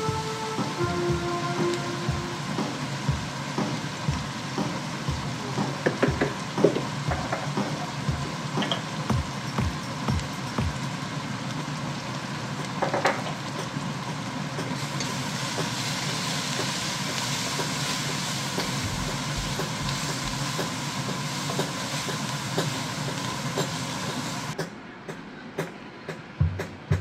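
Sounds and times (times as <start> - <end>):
fish frying in hot oil: 0.0 - 24.6.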